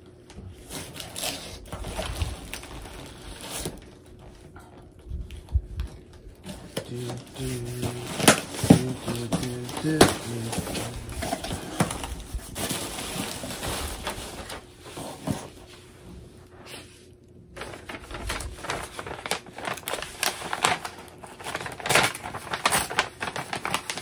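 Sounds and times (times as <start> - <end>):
wrapping and cardboard crinkling: 0.4 - 16.9, 17.5 - 24.0.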